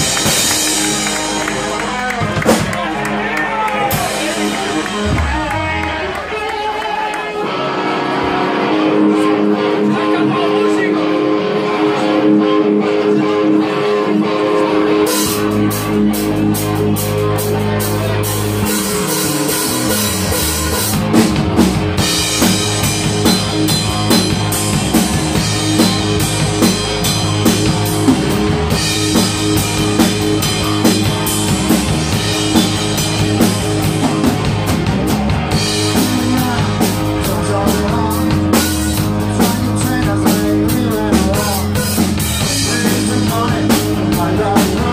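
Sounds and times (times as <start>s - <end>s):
bass line: 0.0s - 44.9s
drum kit beats: 0.0s - 44.9s
electric guitar: 0.0s - 44.9s.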